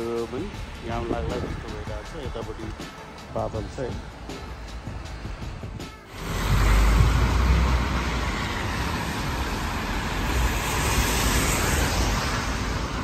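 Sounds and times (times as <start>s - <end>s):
low traffic rumble: 0.0s - 13.0s
tyres hissing on wet road: 0.0s - 13.0s.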